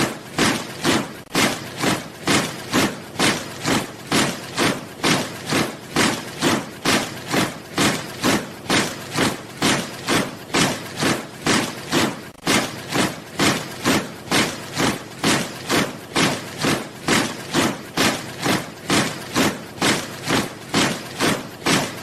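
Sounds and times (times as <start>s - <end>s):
soldiers marching in step: 0.0s - 22.0s.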